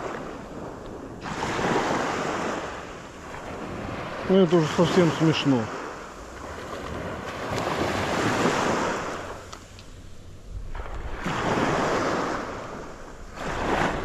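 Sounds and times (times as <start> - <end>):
sea surf washing on beach: 0.0 - 14.0.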